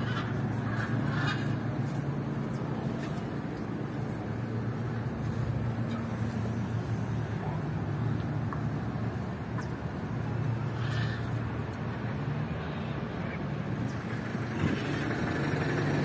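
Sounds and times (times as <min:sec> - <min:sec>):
low hum of traffic: 0:00.0 - 0:16.0.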